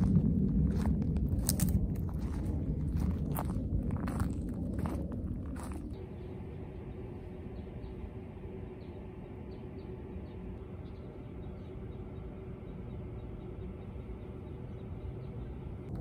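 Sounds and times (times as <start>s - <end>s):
faint hum: 0.0s - 16.0s
low outdoor rumble: 0.0s - 16.0s.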